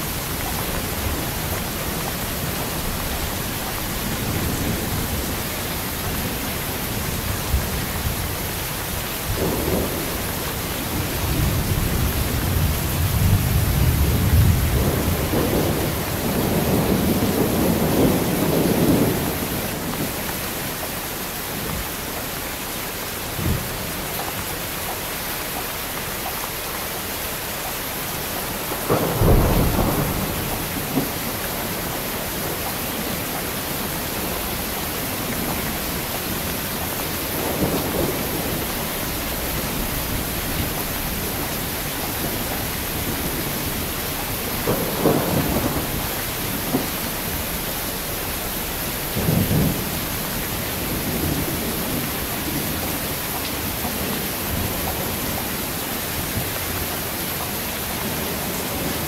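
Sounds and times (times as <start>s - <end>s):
low rumbles of thunder: 0.0s - 20.8s, 28.4s - 59.0s
heavy rain falling: 0.0s - 59.0s.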